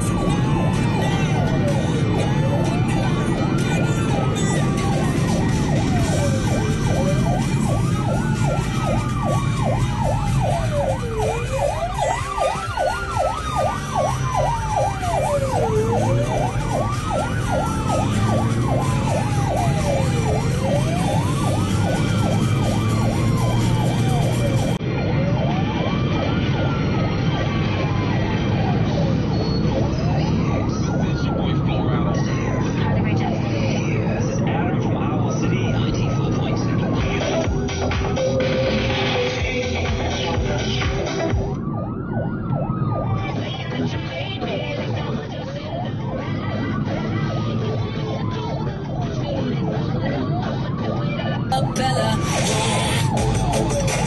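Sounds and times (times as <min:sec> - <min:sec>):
car engine and road noise: 0:00.0 - 0:54.0
siren wailing and yelping: 0:00.0 - 0:54.0.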